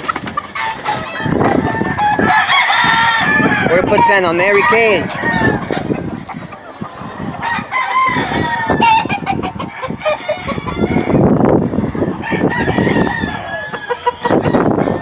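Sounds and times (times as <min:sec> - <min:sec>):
roosters crowing and clucking: 0:00.0 - 0:15.0
wind rumbling on microphone: 0:00.0 - 0:15.0.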